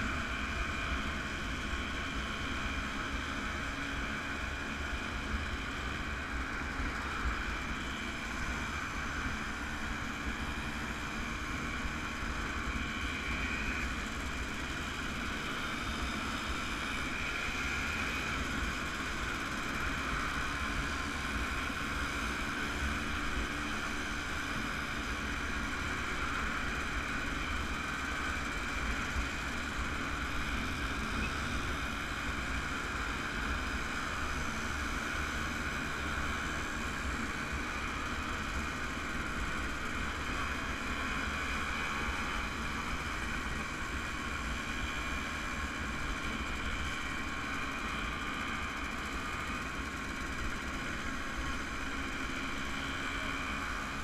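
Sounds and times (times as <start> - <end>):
motorcycle engines droning: 0.0 - 54.0.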